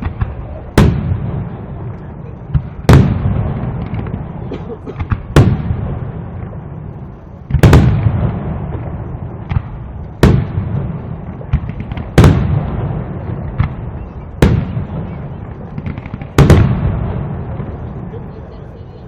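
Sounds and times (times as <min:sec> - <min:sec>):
small firework pops: 0:00.0 - 0:06.5, 0:07.4 - 0:17.8
rumble of echoing detonations: 0:00.0 - 0:19.0.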